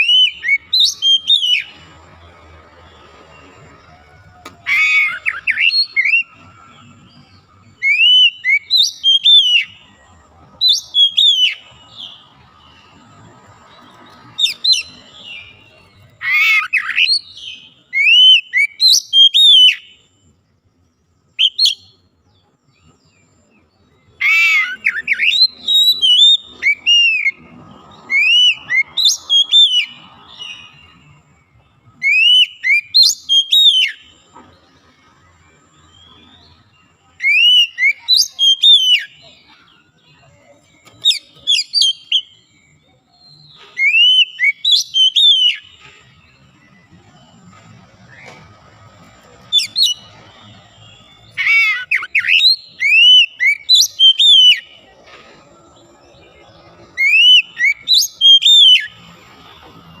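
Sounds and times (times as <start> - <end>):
bird whistling song: 0.0 - 2.2, 3.0 - 13.2, 13.8 - 20.2, 21.3 - 22.1, 24.0 - 40.0, 40.6 - 48.5, 49.2 - 54.9, 56.1 - 60.0.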